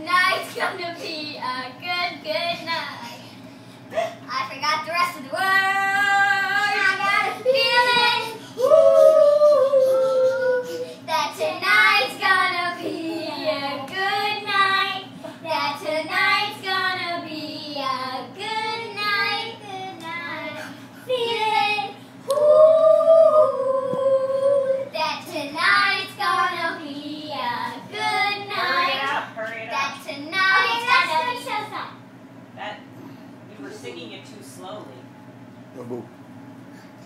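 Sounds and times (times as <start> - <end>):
girl singing: 0.0 - 3.2, 4.3 - 31.8.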